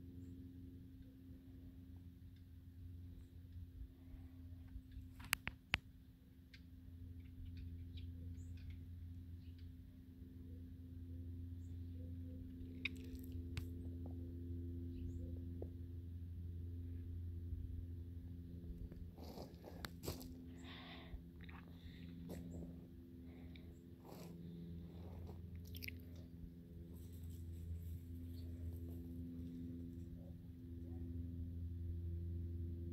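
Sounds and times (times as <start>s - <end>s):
faint low hum: 0.0s - 32.9s.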